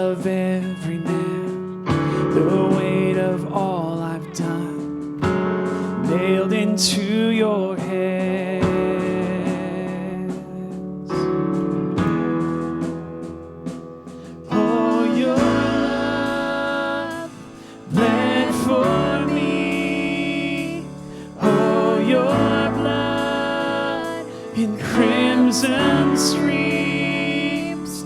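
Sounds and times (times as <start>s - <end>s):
slow keyboard and guitar chords: 0.0s - 28.0s.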